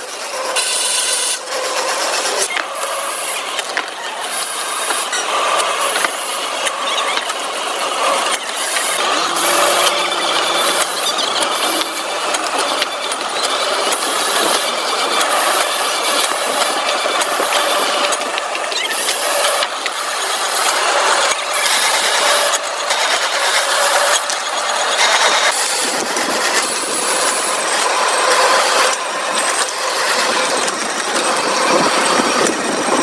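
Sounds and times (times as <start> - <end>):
industrial machinery rattling and scraping: 0.0 - 33.0.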